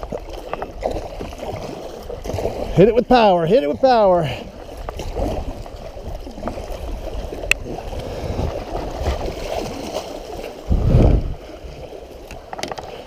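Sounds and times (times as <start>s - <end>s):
paddle splashes: 0.0s - 13.0s
water rushing and gurgling: 0.0s - 13.0s.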